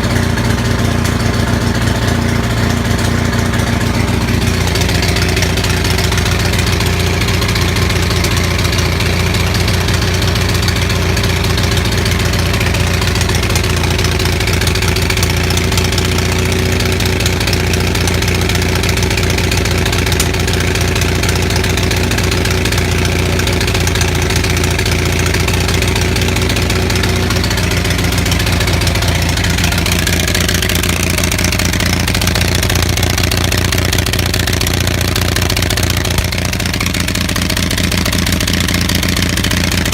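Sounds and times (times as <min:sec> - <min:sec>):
generator engine misfiring and popping: 0:00.0 - 0:39.9.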